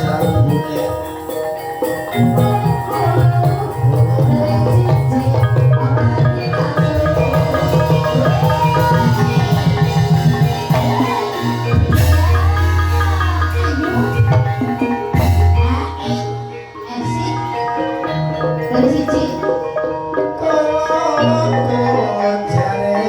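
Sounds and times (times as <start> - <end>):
gamelan music: 0.0 - 23.0.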